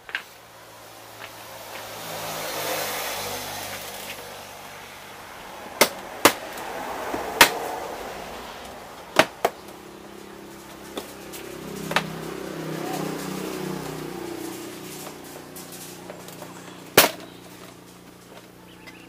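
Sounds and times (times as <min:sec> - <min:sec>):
rushing noise: 0:00.5 - 0:17.0.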